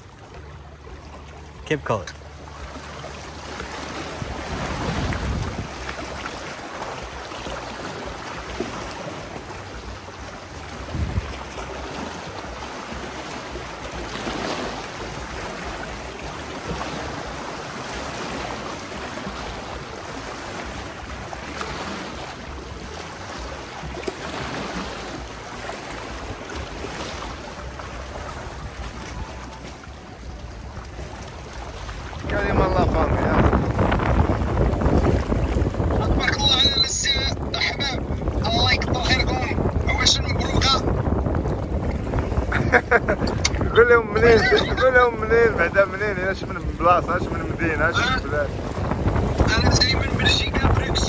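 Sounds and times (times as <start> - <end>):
sea waves: 0.0 - 51.0
wind buffeting microphone: 2.3 - 51.0.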